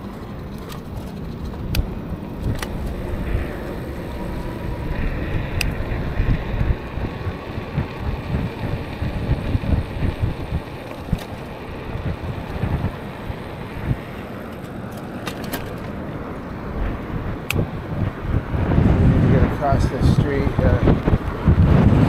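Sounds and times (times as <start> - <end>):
road and tyre noise: 0.0 - 22.0
wind buffeting microphone: 0.0 - 22.0.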